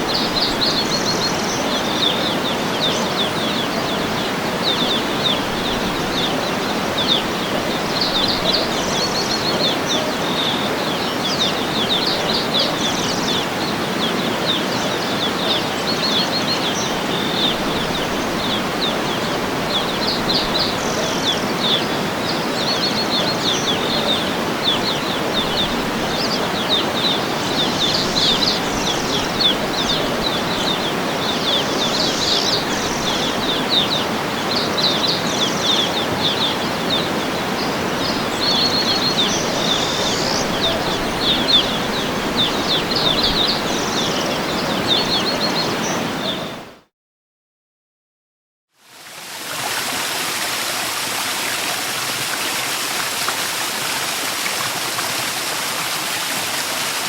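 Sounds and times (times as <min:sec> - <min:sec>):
waterfall rushing: 0:00.0 - 0:46.4, 0:48.9 - 0:57.0
small birds chirping: 0:00.0 - 0:46.6.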